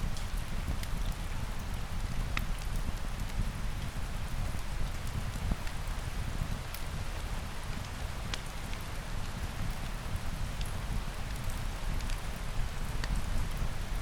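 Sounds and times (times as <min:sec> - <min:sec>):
steady rain falling: 0:00.0 - 0:14.0
wood fire crackling: 0:00.0 - 0:14.0.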